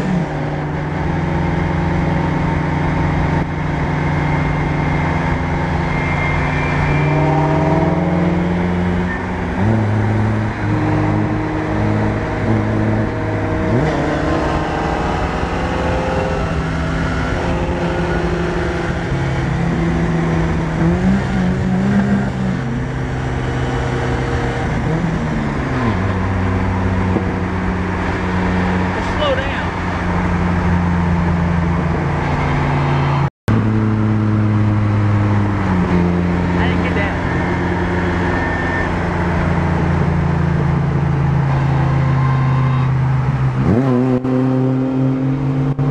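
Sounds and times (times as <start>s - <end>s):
road and wind noise: 0.0s - 45.9s.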